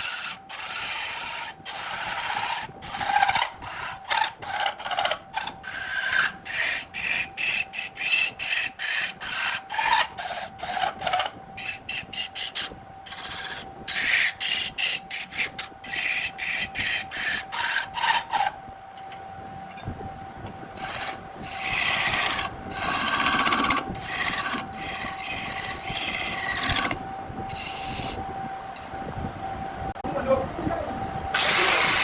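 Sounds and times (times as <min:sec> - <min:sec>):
tool rasping on lathe wood: 0:00.0 - 0:18.5, 0:20.8 - 0:28.2, 0:31.4 - 0:32.0.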